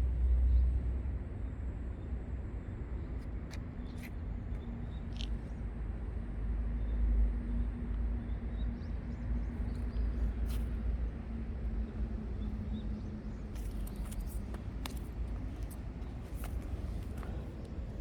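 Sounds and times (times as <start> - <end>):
low rumble with faint hum: 0.0 - 18.0.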